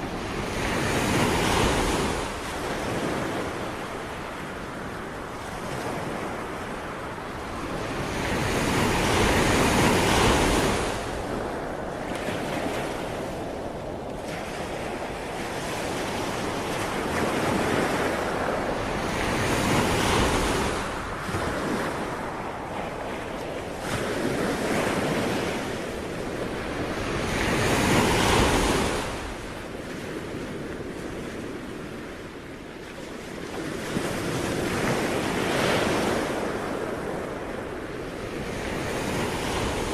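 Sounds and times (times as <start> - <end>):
ocean waves breaking: 0.0 - 39.9
wind: 0.0 - 39.9.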